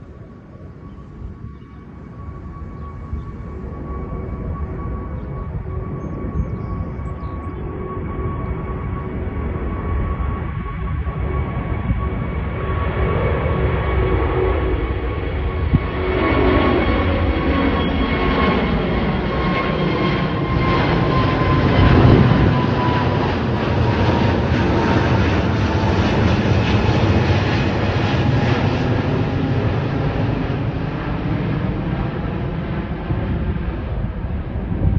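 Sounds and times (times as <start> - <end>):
jet engine roar with whine: 0.0 - 34.9.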